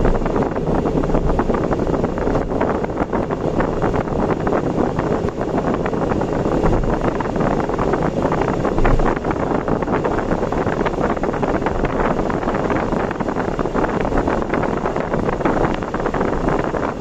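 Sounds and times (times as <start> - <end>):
car road noise: 0.0 - 17.0
wind noise: 0.0 - 17.0.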